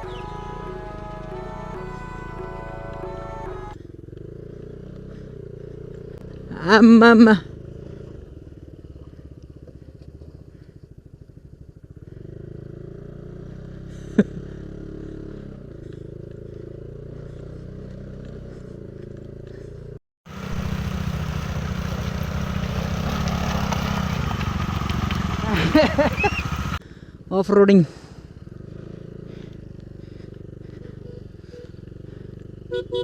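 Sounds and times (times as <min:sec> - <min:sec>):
scooter engine running: 0:00.0 - 0:27.3, 0:28.1 - 0:33.0.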